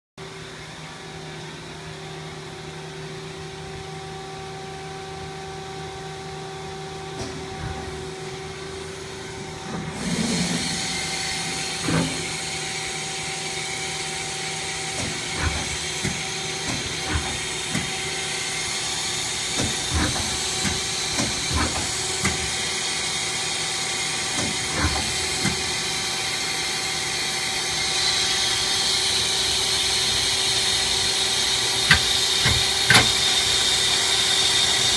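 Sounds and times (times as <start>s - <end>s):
machine tool humming: 5.8s - 34.9s.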